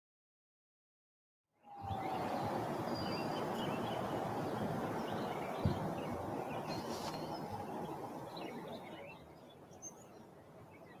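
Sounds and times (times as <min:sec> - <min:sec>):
steady outdoor noise: 0:01.5 - 0:11.0
birds chirping: 0:01.6 - 0:11.0.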